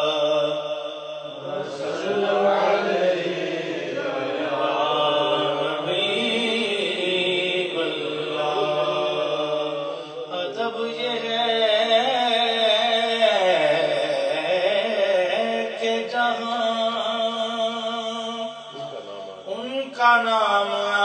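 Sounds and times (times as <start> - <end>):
man singing into a microphone: 0.0 - 2.6, 3.4 - 21.0.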